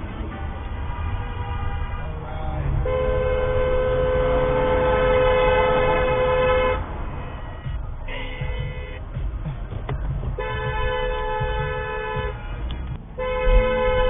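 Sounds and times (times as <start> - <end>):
road noise rumble: 0.0 - 14.0
car horn blast: 0.7 - 9.0, 10.4 - 14.0.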